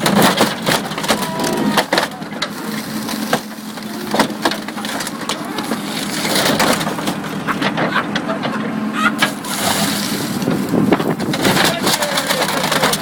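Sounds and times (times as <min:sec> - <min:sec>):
car body crunching: 0:00.0 - 0:13.0
excavator engine hum: 0:00.0 - 0:13.0.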